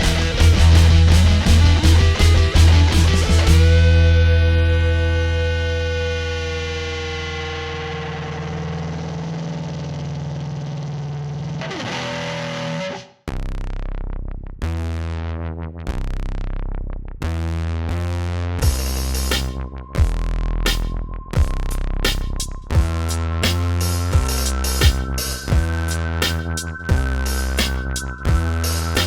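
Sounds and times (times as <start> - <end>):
distorted electric guitar chords: 0.0 - 13.2, 18.6 - 29.0.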